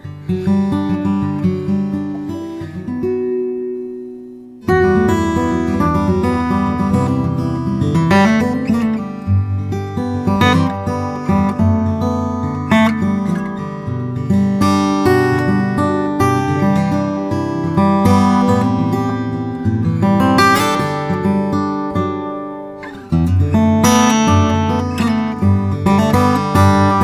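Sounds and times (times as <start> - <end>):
plucked acoustic guitar melody: 0.0 - 27.0.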